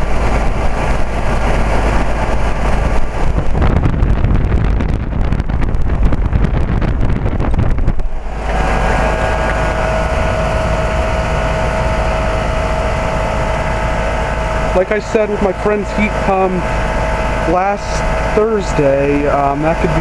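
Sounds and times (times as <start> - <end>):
heat pump unit humming: 0.0 - 20.0
wind buffeting microphone: 0.0 - 20.0.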